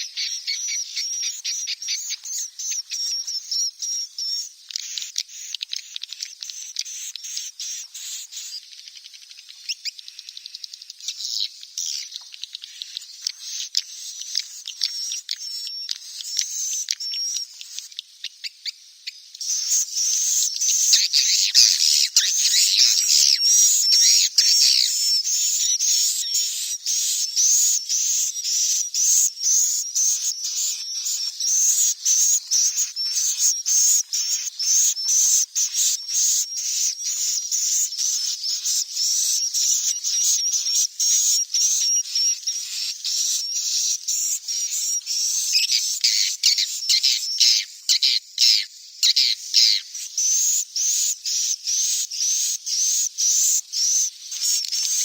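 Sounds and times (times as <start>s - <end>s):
bird chicks chirping: 0.0s - 55.0s.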